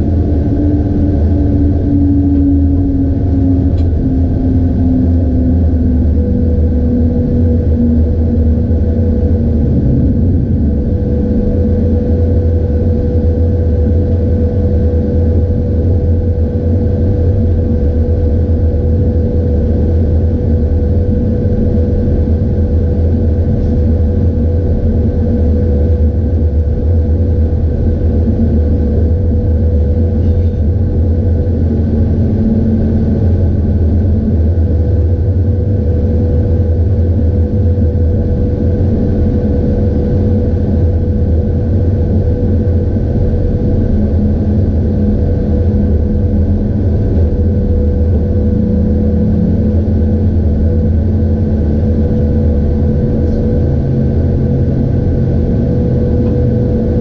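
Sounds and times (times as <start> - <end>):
locomotive hum: 0.0 - 57.0
train rumbling on rails: 0.0 - 57.0.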